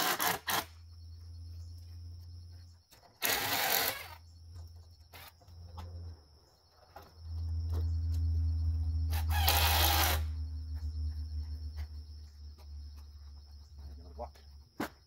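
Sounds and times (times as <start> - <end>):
steady low hum: 0.6 - 3.0, 3.8 - 14.8.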